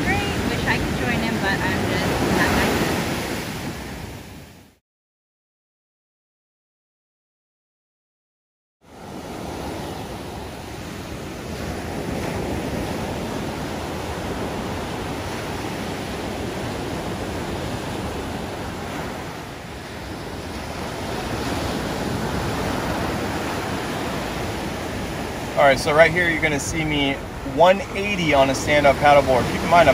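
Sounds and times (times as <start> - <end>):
ocean surf breaking: 0.0 - 4.8, 8.8 - 29.9.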